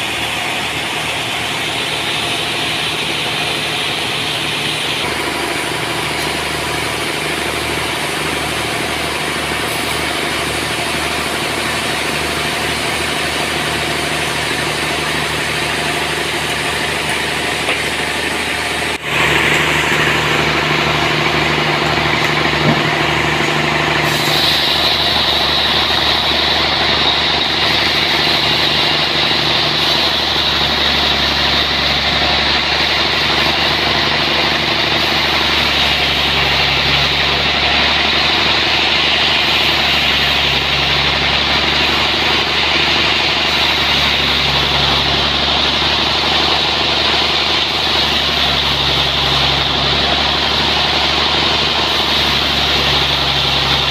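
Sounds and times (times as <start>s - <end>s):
high steady whine: 0.0s - 53.9s
sawmill engine drone: 0.0s - 53.9s.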